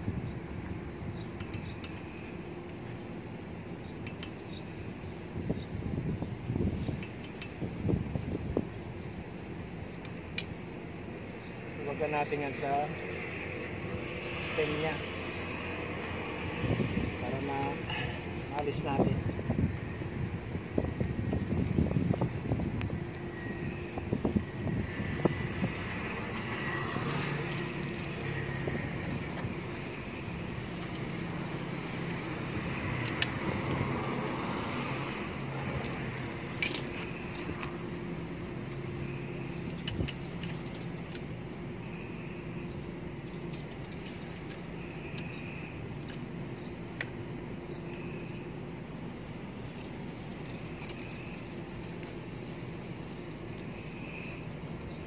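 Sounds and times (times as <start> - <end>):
vehicle engines humming: 0.0 - 55.0.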